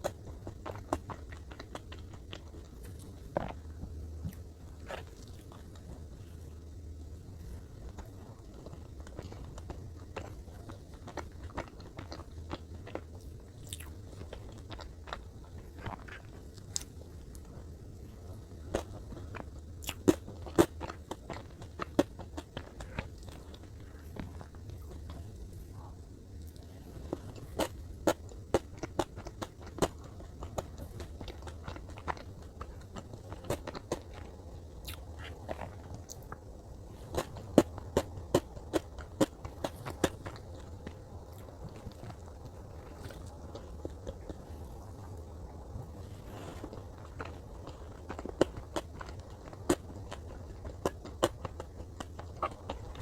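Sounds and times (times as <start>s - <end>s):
chewing cake: 0.0s - 53.0s
steady low hum: 0.0s - 53.0s.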